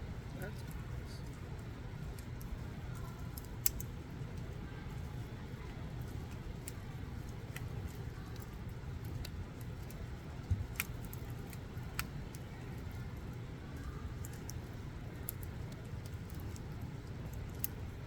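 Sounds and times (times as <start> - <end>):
campfire rumbling: 0.0 - 18.0
fire crackles and pops: 0.9 - 18.0.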